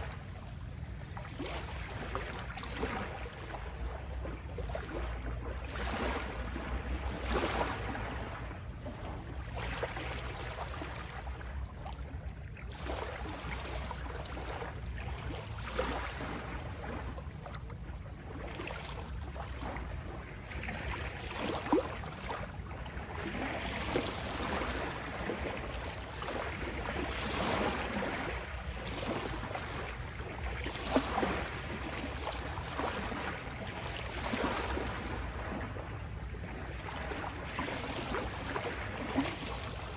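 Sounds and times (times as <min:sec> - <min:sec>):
small waves lapping: 0:00.0 - 0:39.9
water splashes: 0:00.0 - 0:39.9.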